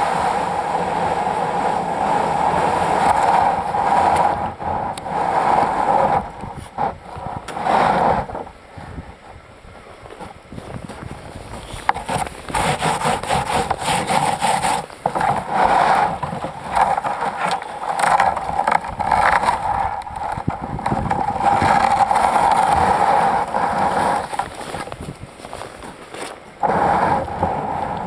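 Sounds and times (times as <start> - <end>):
kayak hull grinding on ice: 0.0 - 28.0.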